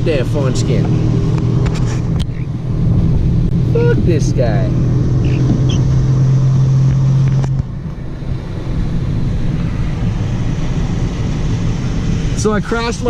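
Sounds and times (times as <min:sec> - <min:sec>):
engine and road drone: 0:00.0 - 0:13.0
hum: 0:00.4 - 0:12.4.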